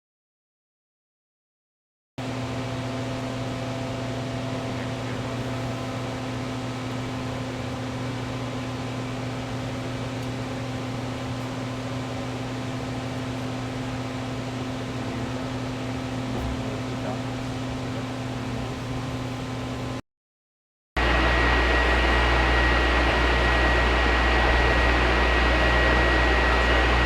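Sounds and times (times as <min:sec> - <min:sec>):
mechanical hum with hiss: 0:02.2 - 0:20.0, 0:21.0 - 0:27.0.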